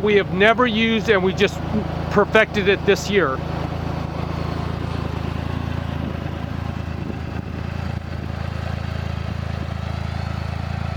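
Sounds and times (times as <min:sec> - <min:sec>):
engine idling: 0:00.0 - 0:10.9.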